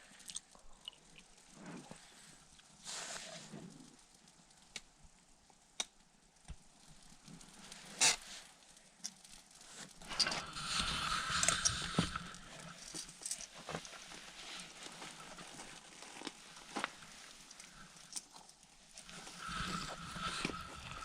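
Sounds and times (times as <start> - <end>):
rustling and crackling: 0.1 - 21.0.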